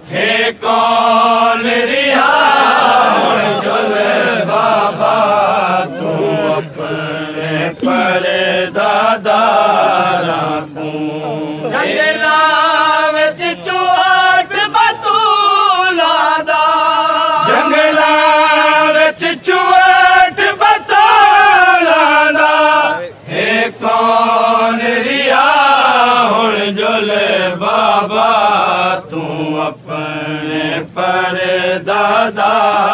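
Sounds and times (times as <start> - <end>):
voices chanting mourning elegy: 0.0 - 32.9.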